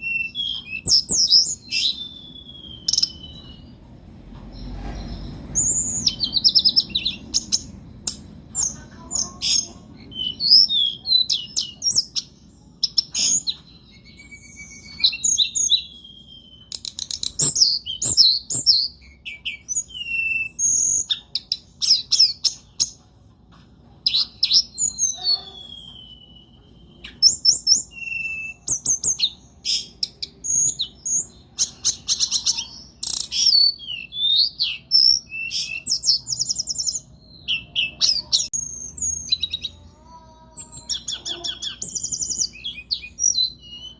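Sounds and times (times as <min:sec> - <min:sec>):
songbird singing trills: 0:00.0 - 0:23.0, 0:24.0 - 0:43.9.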